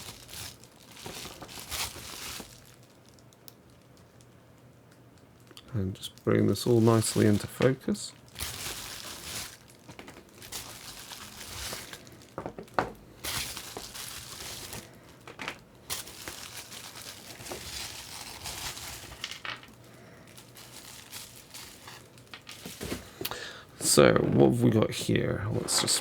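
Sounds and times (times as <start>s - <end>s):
packaging crinkling and rustling: 0.0s - 4.4s, 5.4s - 26.0s.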